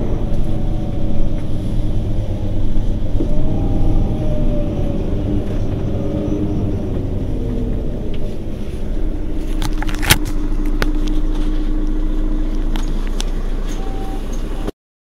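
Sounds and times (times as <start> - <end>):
bus diesel engine idling: 0.0 - 14.7.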